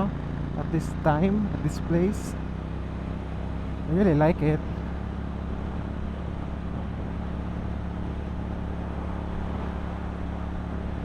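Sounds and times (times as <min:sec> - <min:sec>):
motorcycle engine cruising: 0:00.0 - 0:11.0
road and wind noise: 0:00.0 - 0:11.0.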